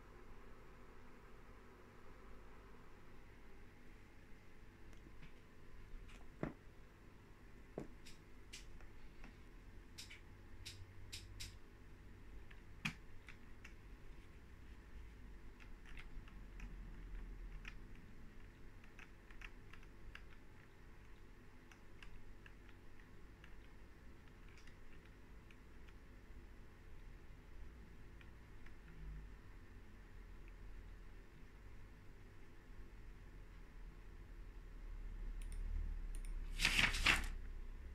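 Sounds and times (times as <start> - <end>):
faint low hum: 0.0 - 37.9.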